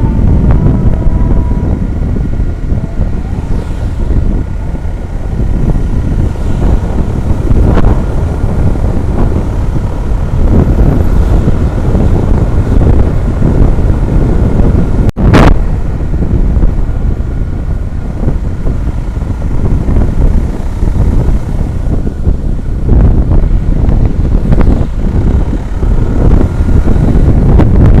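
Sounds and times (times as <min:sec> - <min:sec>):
road rumble: 0:00.0 - 0:28.0
wind buffeting on microphone: 0:00.0 - 0:28.0.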